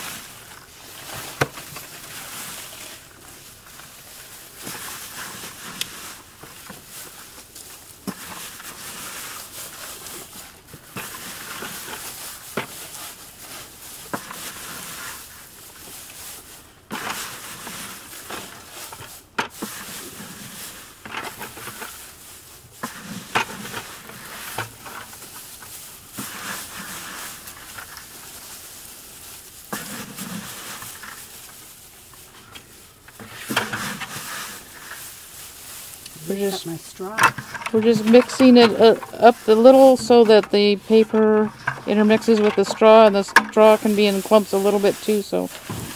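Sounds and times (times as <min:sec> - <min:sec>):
straw and paper rustling: 0:00.0 - 0:45.9.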